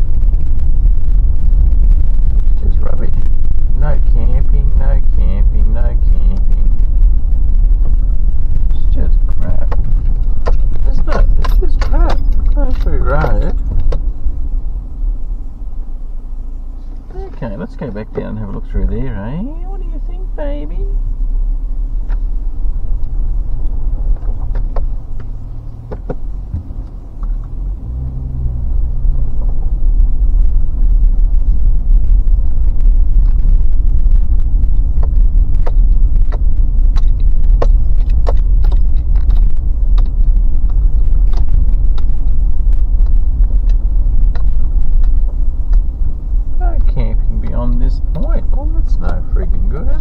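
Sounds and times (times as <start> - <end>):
engine and tyres rumbling: 0.0 - 50.0
gravel ticking under tyres: 0.0 - 50.0.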